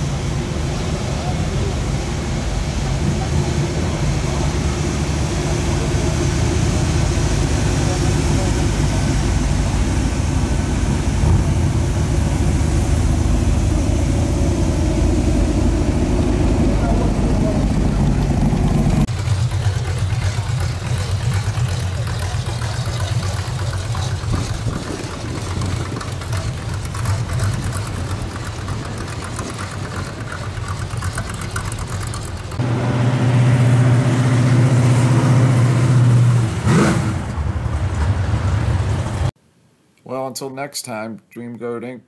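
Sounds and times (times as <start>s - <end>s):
cars driving past: 0.0s - 39.4s.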